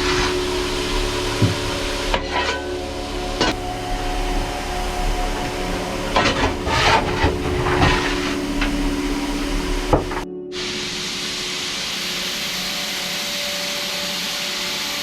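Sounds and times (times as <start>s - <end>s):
steam locomotive hissing and humming: 0.0s - 15.0s.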